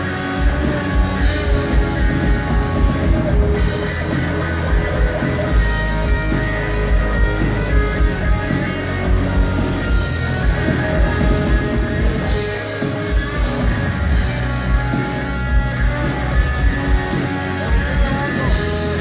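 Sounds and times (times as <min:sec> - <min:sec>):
acoustic guitar: 0:00.0 - 0:19.0
bass guitar: 0:00.0 - 0:19.0
drum kit steady beat: 0:00.0 - 0:19.0
electric guitar: 0:00.0 - 0:19.0.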